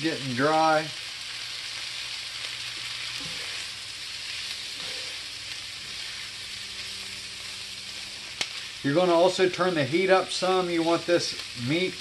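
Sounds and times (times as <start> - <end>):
meat and onions sizzling in skillet: 0.0 - 12.0.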